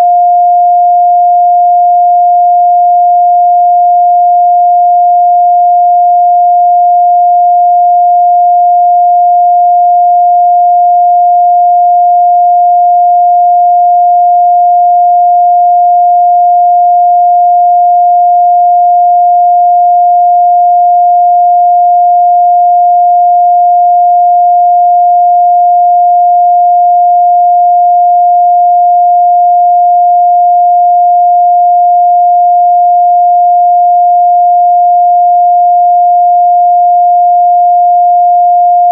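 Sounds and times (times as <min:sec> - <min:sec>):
steady sine wave test tone: 0:00.0 - 0:38.9.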